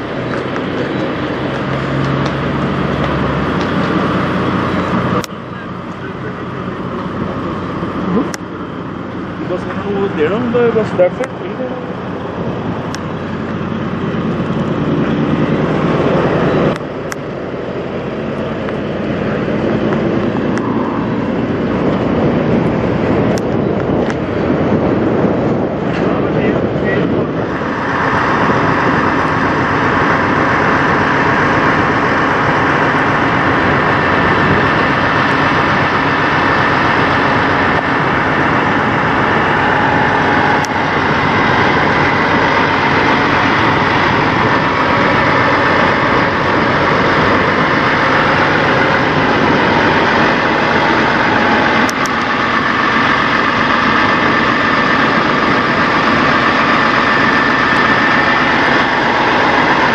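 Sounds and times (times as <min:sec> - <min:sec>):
diesel truck idling: 0:00.0 - 0:59.9
steady whine: 0:00.0 - 0:59.9.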